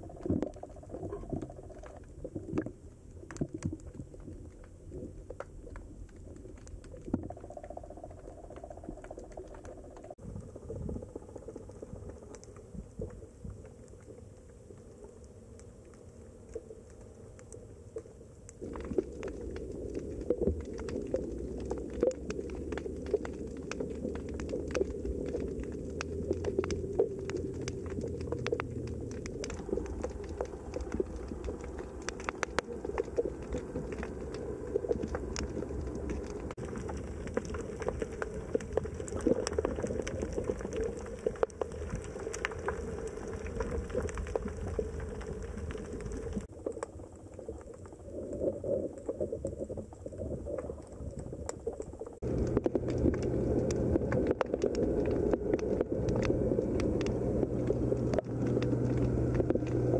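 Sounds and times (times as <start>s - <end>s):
underwater crackling clicks: 0.0s - 59.9s
underwater low rumble: 0.0s - 59.9s.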